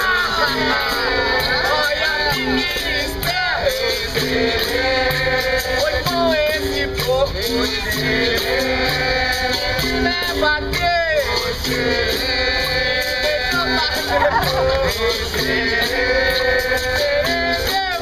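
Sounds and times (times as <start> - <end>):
berimbaus playing: 0.0 - 17.9
pandeiro: 0.0 - 18.0
voices singing: 0.0 - 18.0.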